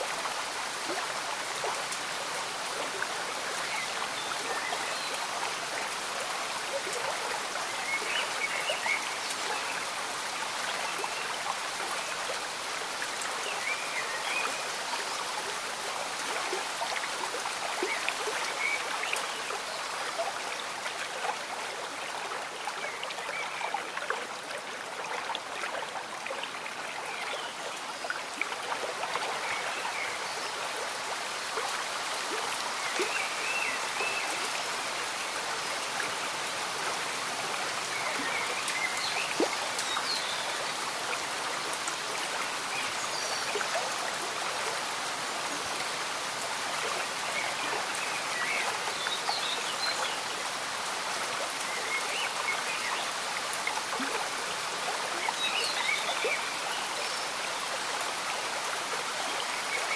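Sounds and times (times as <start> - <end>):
rain falling: 0.0 - 59.9
stream bubbling and trickling: 0.0 - 59.9.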